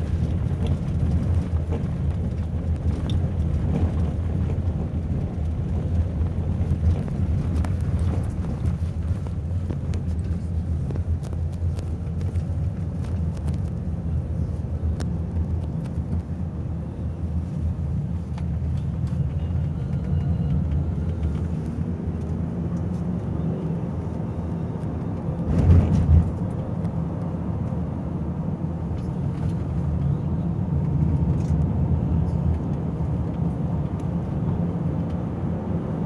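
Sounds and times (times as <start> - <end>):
road and engine noise in car: 0.0 - 36.0.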